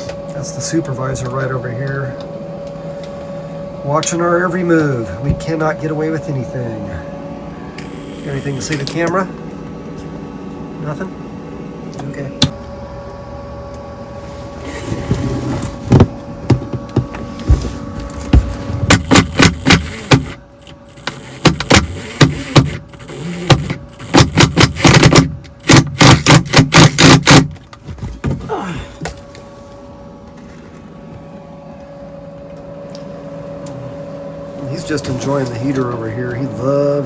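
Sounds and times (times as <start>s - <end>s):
space heater humming: 0.0s - 37.0s.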